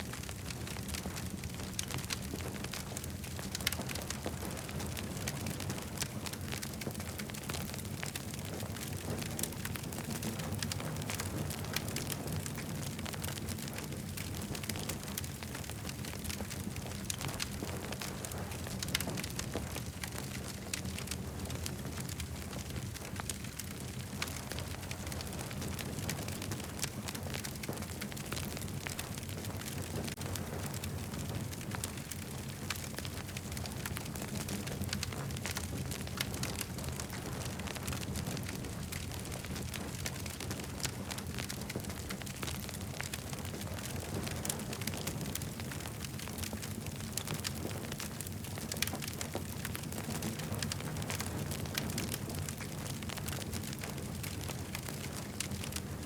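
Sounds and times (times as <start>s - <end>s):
burning wood crackling and popping: 0.0s - 56.0s
campfire flames rumbling: 0.0s - 56.0s.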